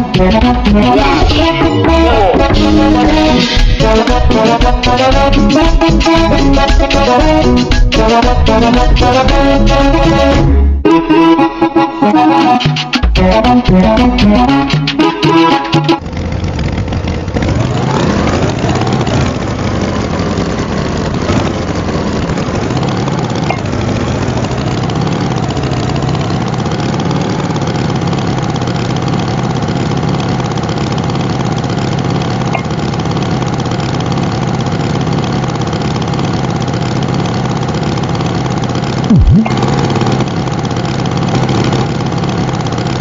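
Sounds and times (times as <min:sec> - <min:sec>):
tractor engine: 0:00.0 - 0:11.0, 0:11.7 - 0:43.0.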